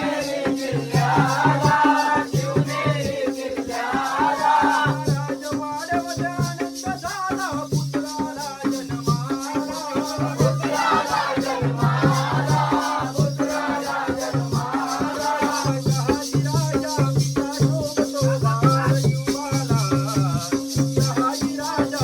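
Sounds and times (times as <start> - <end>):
hand drum beat: 0.0 - 22.0
jingling percussion: 0.0 - 22.0.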